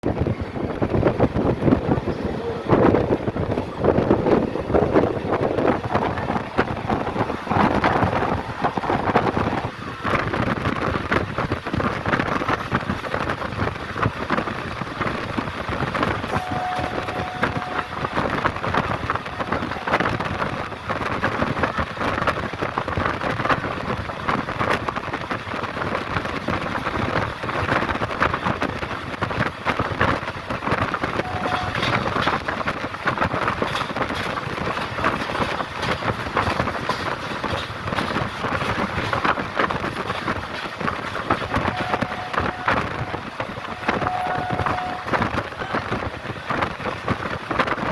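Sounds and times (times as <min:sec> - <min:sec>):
train rattling at high speed: 0:00.0 - 0:47.9.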